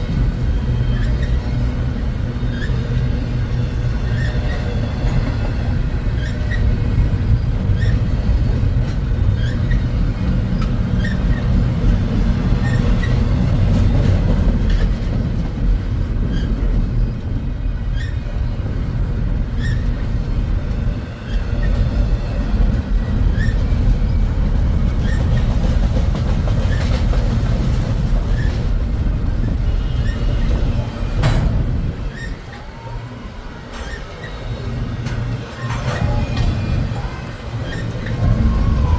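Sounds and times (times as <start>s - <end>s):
freight train cars rolling: 0.0s - 38.9s.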